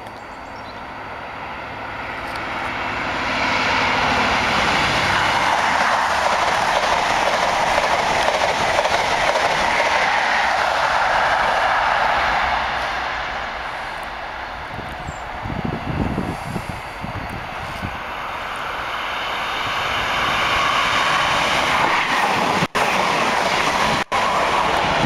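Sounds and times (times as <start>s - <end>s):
diesel train engine hum: 0.0s - 25.0s
wheels rushing on rail: 0.0s - 25.0s.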